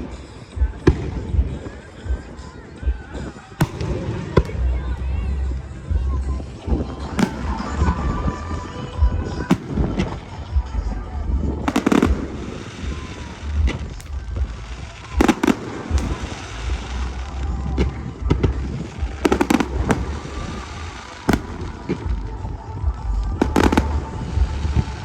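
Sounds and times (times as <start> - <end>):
fireworks booming: 0.0 - 25.0
sharp fireworks cracks: 0.0 - 25.0
low rumble: 3.7 - 25.0.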